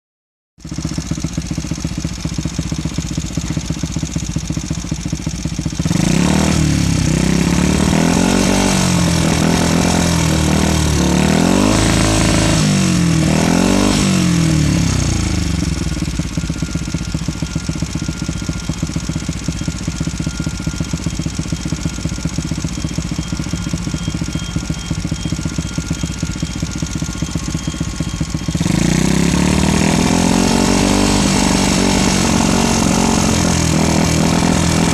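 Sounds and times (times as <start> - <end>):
motorcycle engine idling and revving: 0.6 - 34.9.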